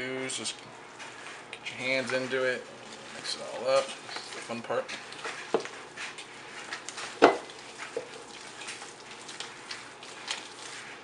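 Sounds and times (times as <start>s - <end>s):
hands squelching ground meat: 0.2s - 11.0s.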